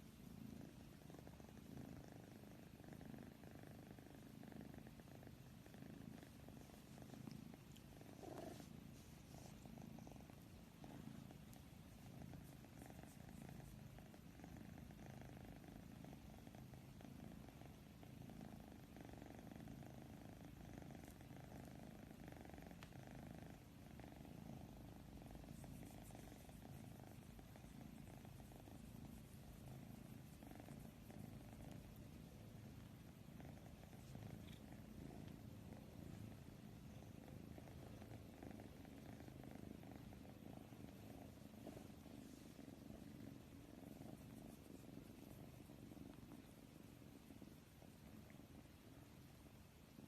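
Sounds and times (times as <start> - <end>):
cat purring: 0.0 - 50.0.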